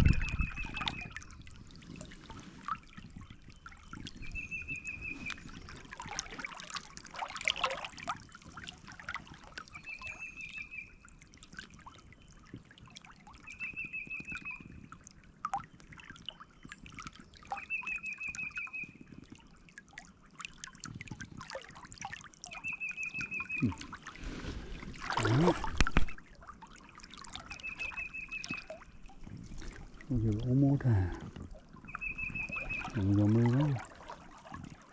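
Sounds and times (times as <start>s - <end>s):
creek water trickling: 0.0s - 34.9s.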